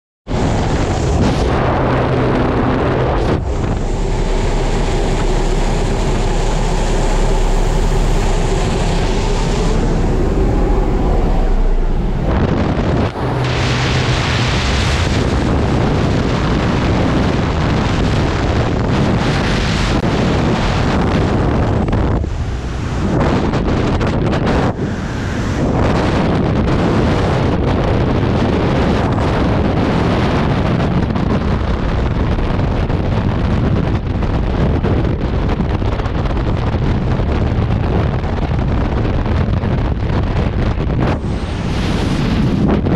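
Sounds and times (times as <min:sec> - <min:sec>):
propeller plane engine: 0:00.3 - 0:42.9
wind roaring on microphone: 0:00.3 - 0:42.9.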